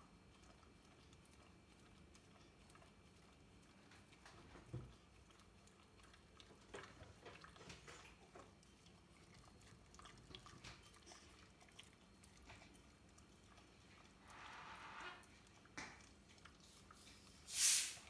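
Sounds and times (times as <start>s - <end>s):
dog licking and chewing: 0.0s - 17.5s.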